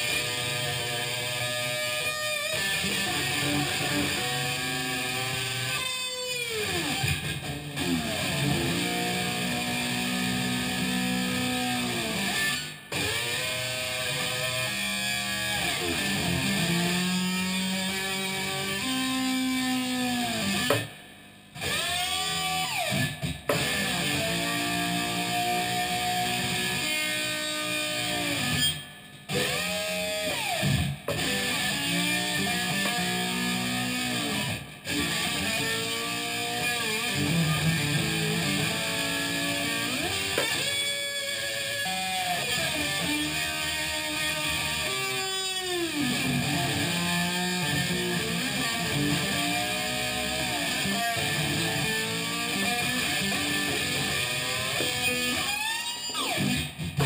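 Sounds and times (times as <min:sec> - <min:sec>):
slide guitar: 0:00.0 - 0:20.9, 0:21.6 - 0:57.0.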